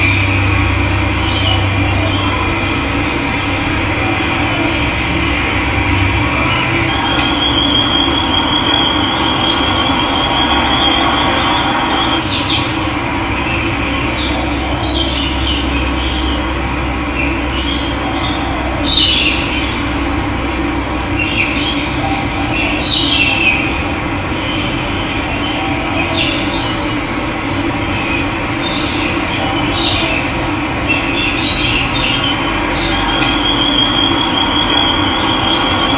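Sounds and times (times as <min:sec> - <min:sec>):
birds calling: 0:00.0 - 0:35.9.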